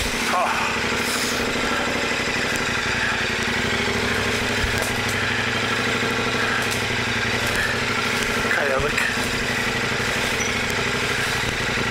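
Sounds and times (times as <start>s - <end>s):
motorcycle engine at low revs: 0.0s - 11.9s.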